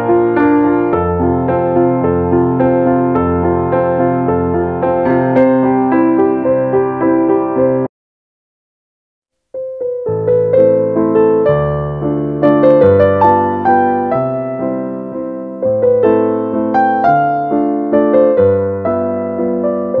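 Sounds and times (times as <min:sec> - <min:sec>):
background piano music: 0:00.0 - 0:07.9, 0:09.5 - 0:20.0.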